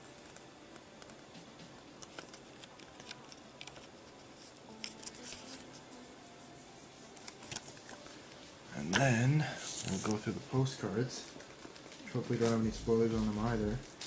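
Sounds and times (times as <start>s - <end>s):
paper pages flicking and rustling: 1.0s - 6.0s, 7.0s - 14.0s
riffle of pages: 2.0s - 6.1s, 6.7s - 14.0s.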